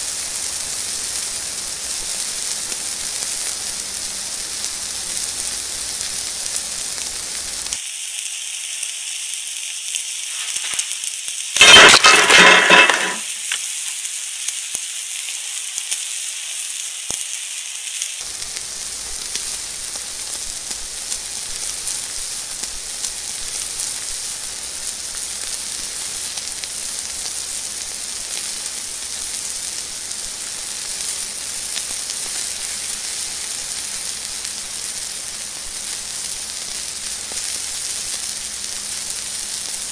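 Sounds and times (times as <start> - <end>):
steak sizzling in pan: 0.0 - 39.9.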